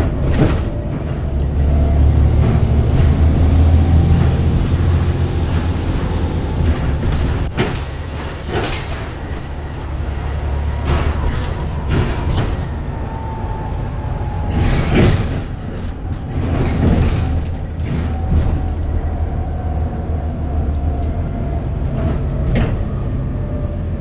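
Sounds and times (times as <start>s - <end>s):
bus engine drone: 0.0s - 24.0s.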